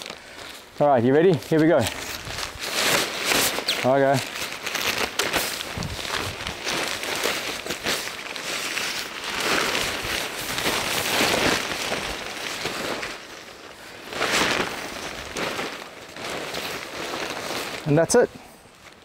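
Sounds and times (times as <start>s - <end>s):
tent fabric rustling and swishing: 0.0s - 19.0s.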